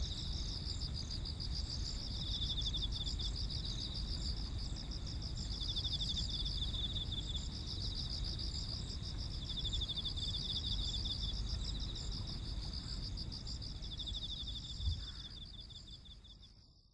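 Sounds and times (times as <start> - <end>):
insects trilling: 0.0 - 16.6.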